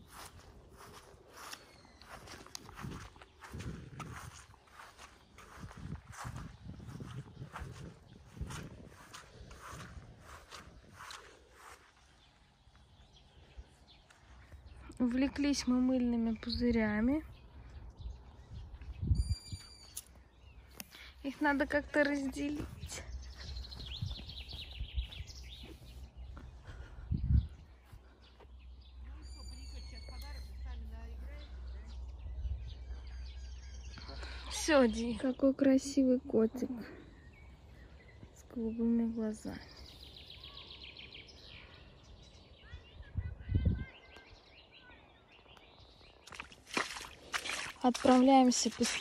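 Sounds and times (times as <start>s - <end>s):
birds chirping: 0.0s - 49.0s
faint outdoor background noise: 0.0s - 49.0s
songbird singing: 0.0s - 49.0s.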